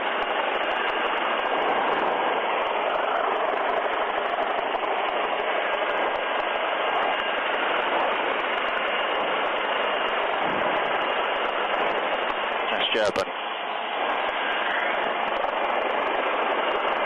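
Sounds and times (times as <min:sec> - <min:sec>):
helicopter rotor hovering over intercom: 0:00.0 - 0:17.0.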